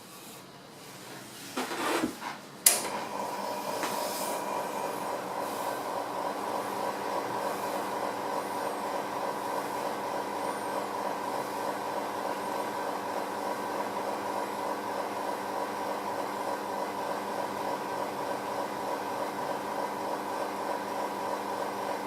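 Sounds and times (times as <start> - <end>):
espresso machine pump humming: 2.7 - 22.0.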